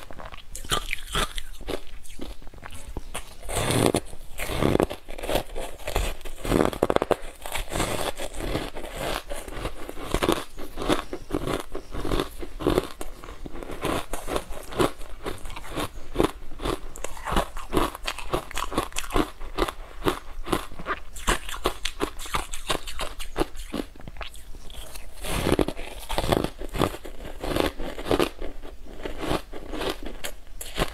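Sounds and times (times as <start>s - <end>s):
ice being bitten and chewed: 0.0s - 30.9s.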